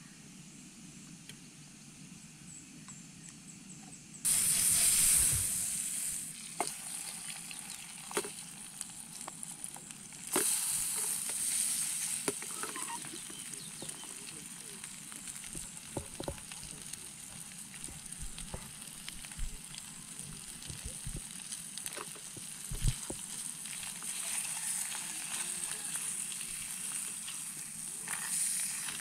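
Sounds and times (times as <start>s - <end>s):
food sizzling in a hot pan: 4.3s - 29.0s.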